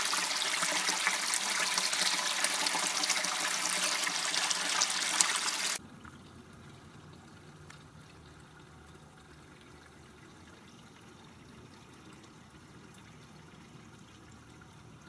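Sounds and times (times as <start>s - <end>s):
water trickling in a canal: 0.0s - 15.0s.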